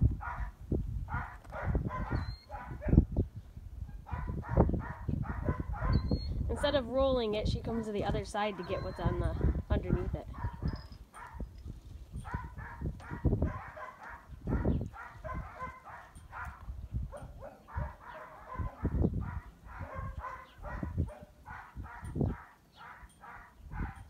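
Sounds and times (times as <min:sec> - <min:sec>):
dogs barking and yipping: 0:00.2 - 0:03.1, 0:03.9 - 0:06.7, 0:07.7 - 0:11.6, 0:12.2 - 0:24.0.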